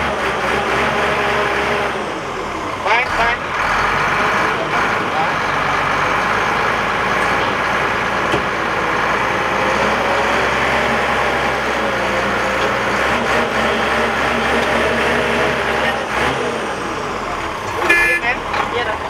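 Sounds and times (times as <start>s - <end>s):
heavy diesel bulldozer engine running: 0.0s - 19.0s.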